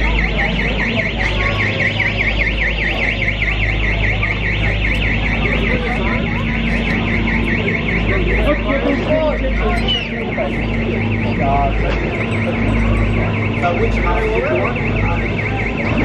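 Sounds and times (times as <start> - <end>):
crowd chatter: 0.0 - 16.0
high electronic warbling tone: 0.0 - 16.0
steady low hum: 0.0 - 16.0.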